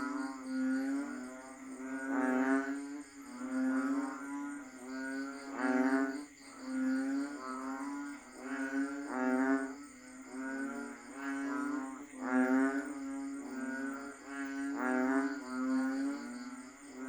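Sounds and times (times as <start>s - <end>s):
frogs calling in chorus: 0.0s - 17.0s.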